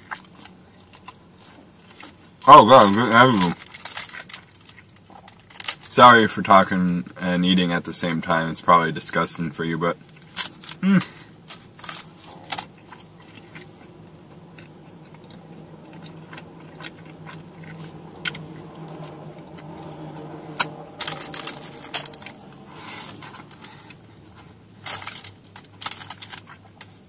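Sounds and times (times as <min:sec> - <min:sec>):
chewing and biting taco: 0:00.0 - 0:06.0, 0:10.0 - 0:27.0
steady low hum: 0:00.0 - 0:27.0.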